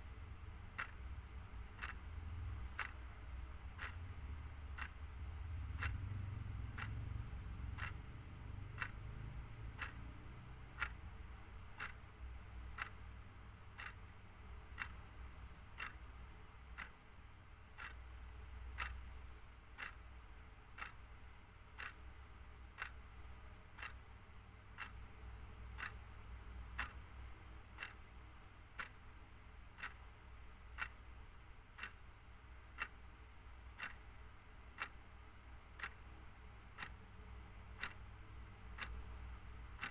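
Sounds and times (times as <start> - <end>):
clock ticking: 0.0 - 39.9
low background hum: 0.0 - 39.9.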